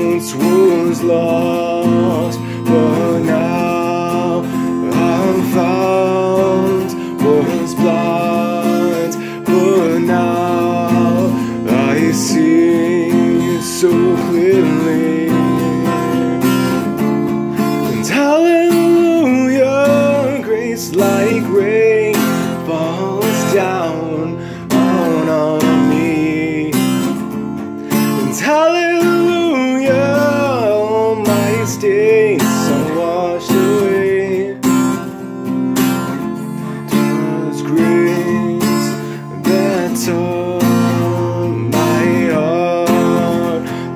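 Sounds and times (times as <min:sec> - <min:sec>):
acoustic guitar strumming: 0:00.0 - 0:43.9
man singing: 0:00.0 - 0:43.9.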